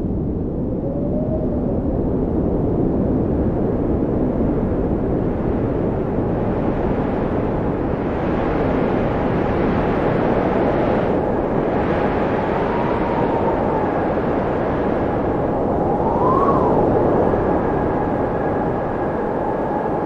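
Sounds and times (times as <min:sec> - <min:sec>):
blizzard wind rushing: 0:00.0 - 0:20.0
whistling howl of wind: 0:00.0 - 0:20.0.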